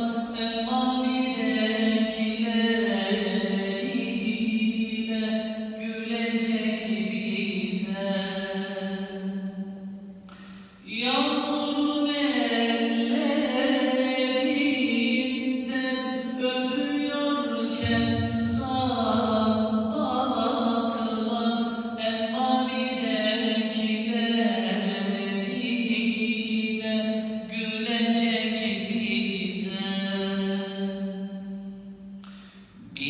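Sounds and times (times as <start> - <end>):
man chanting devotional ode: 0.0 - 9.7, 10.4 - 31.6, 32.3 - 33.0.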